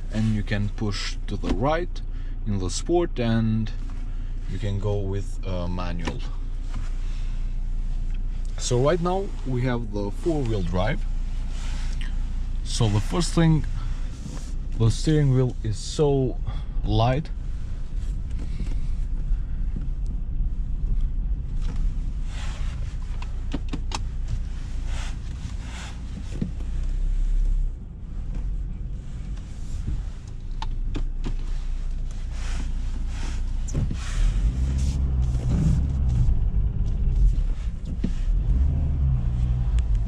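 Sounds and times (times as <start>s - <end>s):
diesel engine running: 0.0s - 40.0s
road and tyre noise: 0.0s - 40.0s.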